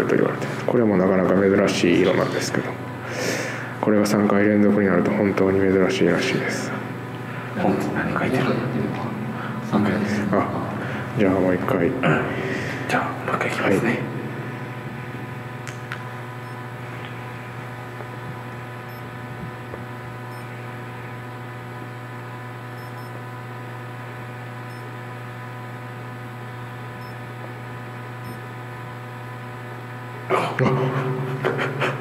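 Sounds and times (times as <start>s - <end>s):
fluorescent lights humming: 0.0s - 32.0s.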